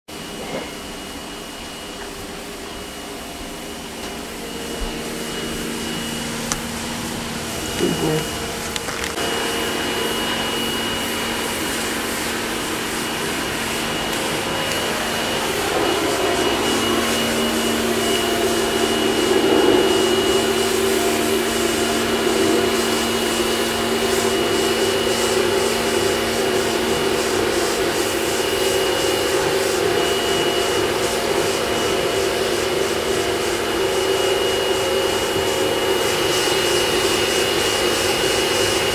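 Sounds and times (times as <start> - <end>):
high whine: 0.6 - 38.9
motor drone: 1.0 - 38.9.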